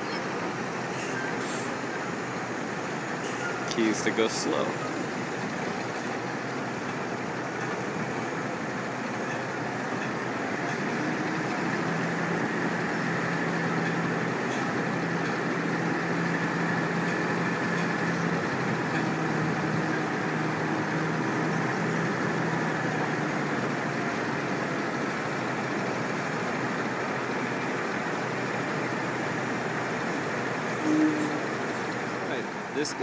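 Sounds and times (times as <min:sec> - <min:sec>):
outdoor noise: 0:00.0 - 0:33.0
truck diesel engine low hum: 0:00.0 - 0:33.0.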